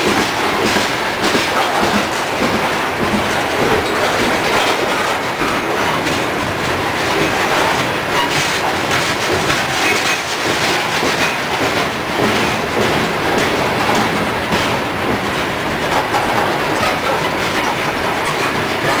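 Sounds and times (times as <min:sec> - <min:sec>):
freight train rumbling past: 0:00.0 - 0:19.0
wheels clicking over rail joints: 0:00.0 - 0:19.0.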